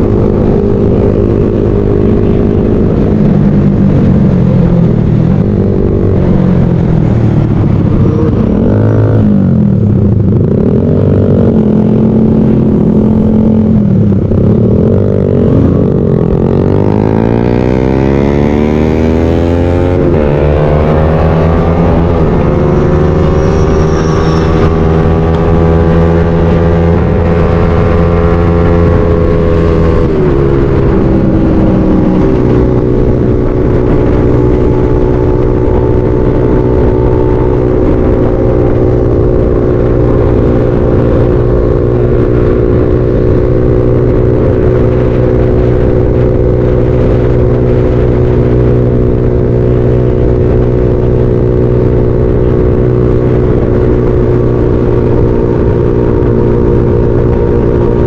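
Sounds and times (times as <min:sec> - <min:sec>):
motorcycle engines revving: 0:00.0 - 0:58.0
vehicles passing by: 0:00.0 - 0:58.0.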